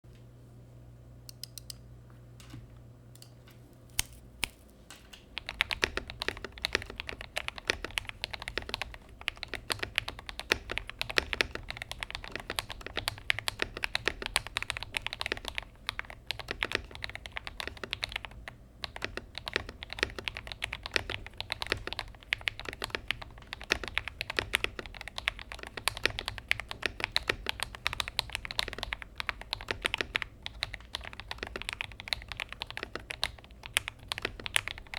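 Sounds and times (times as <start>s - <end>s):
mechanical keyboard typing: 5.4s - 34.9s.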